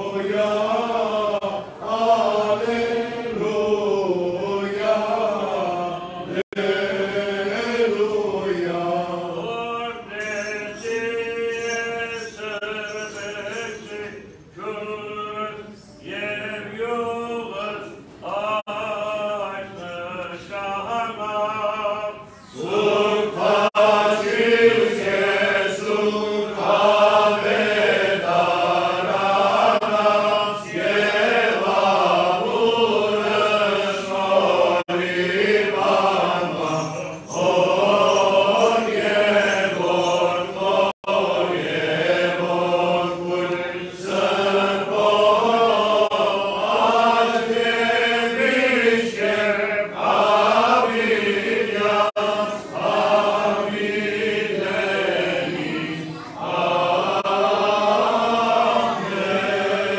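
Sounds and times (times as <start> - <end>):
men chanting together: 0.0 - 11.0, 22.5 - 59.9.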